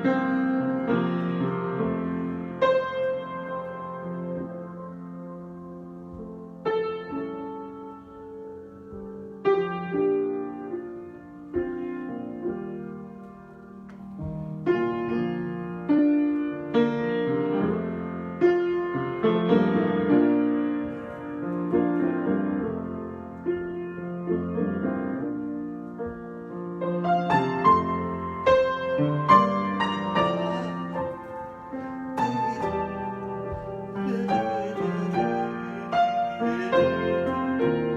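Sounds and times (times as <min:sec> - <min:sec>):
solo piano: 0:00.0 - 0:37.9.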